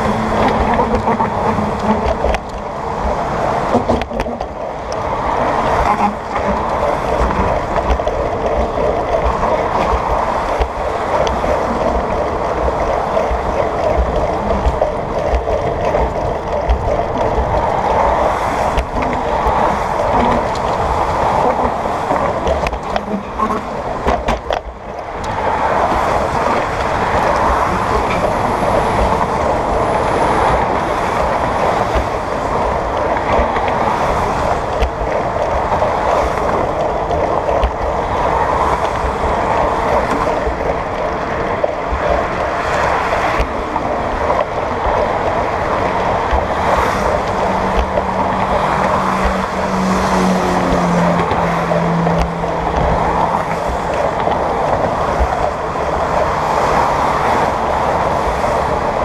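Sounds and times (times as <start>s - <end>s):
car traffic passing: 0.0s - 59.0s
wind rushing on microphone: 0.0s - 59.0s.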